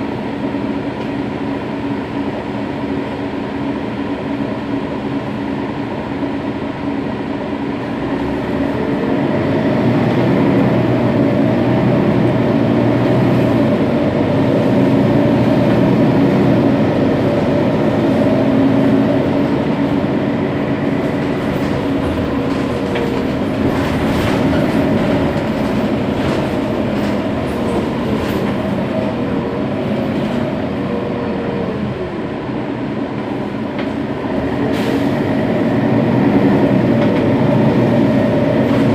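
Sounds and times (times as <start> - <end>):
diesel bus engine idling: 0.0 - 38.9.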